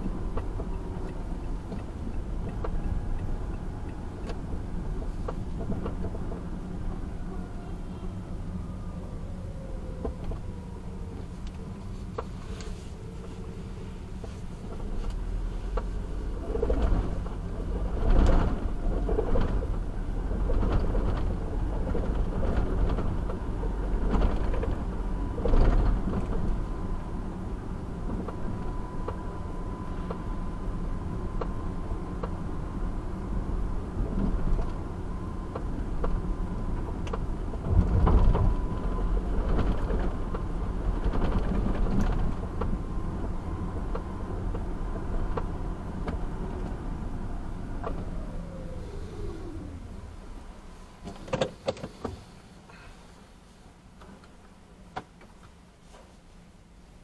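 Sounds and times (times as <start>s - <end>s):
vehicles passing: 0.0s - 55.0s
car road and engine rumble: 0.0s - 57.0s.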